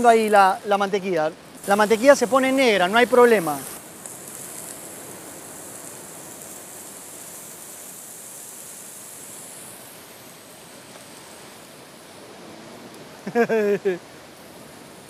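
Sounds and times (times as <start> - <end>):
scallops sizzling in butter: 0.0 - 12.3.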